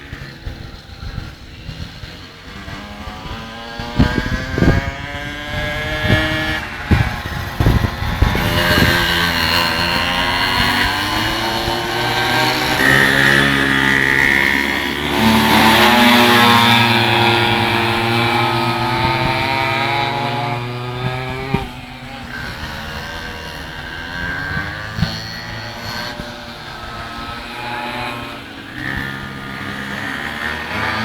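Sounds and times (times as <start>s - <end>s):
small two-stroke engines buzzing: 0.0s - 31.0s.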